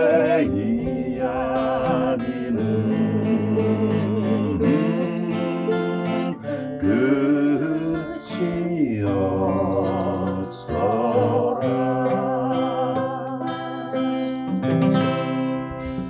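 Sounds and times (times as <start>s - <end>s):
person singing with vibrato: 0.0s - 14.6s
acoustic guitar strumming: 0.0s - 16.0s.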